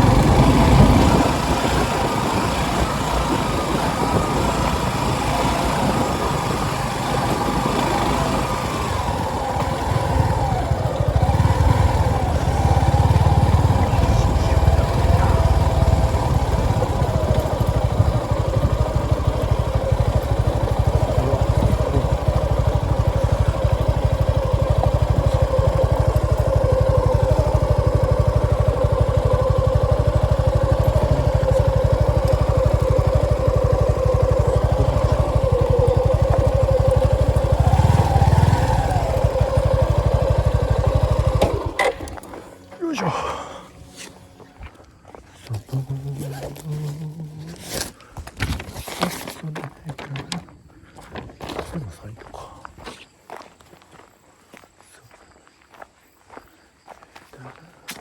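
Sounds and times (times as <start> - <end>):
motorcycle engine revving: 0.0 - 50.6.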